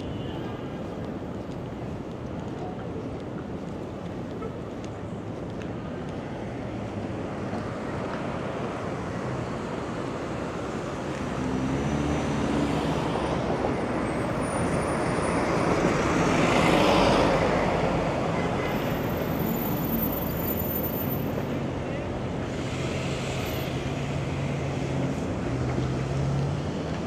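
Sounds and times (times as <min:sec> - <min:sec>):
city traffic noise: 0:00.0 - 0:27.0.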